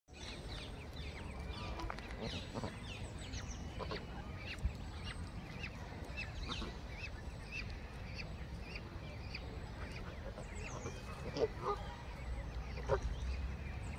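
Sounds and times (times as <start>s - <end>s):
ducklings and gosling peeping: 0.2s - 13.9s.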